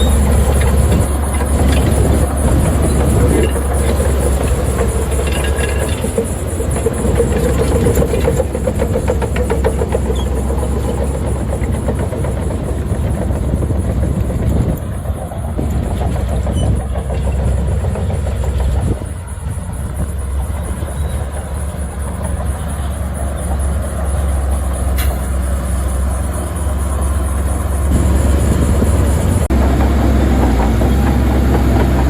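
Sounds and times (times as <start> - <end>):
rapid metallic clatter: 0.0 - 28.7
heavy machinery diesel engine: 0.0 - 32.0.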